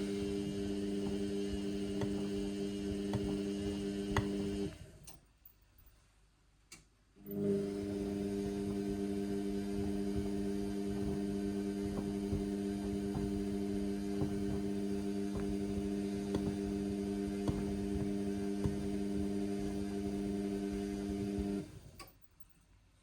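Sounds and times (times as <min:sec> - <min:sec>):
washing machine hum: 0:00.0 - 0:05.1, 0:07.2 - 0:22.1.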